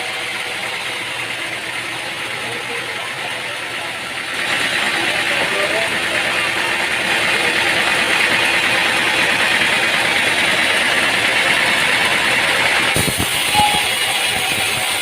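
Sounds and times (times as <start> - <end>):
machinery running: 0.0 - 15.0.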